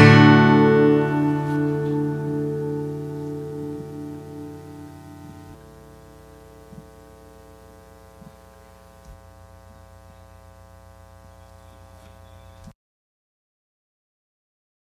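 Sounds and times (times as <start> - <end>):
buzzy electrical hum: 0.0 - 12.8.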